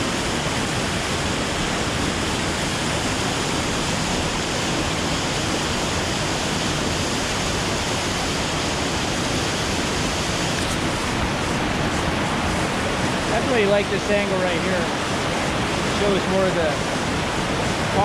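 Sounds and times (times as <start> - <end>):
waterfall pouring over rocks: 0.0 - 18.0.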